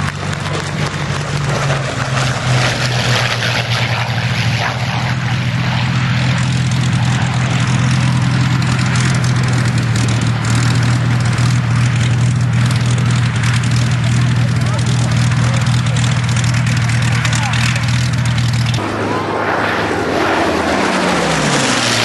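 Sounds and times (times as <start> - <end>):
propeller plane engine running: 0.0 - 22.0.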